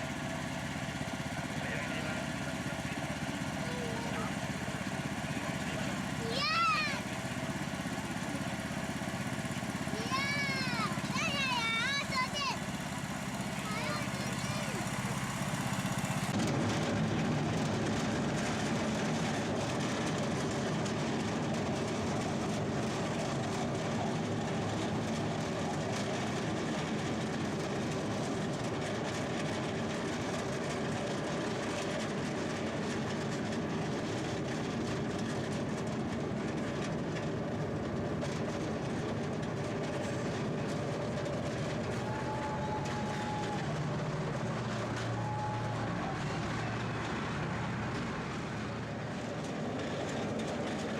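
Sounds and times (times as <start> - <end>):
miniature train running on track: 0.0 - 50.9.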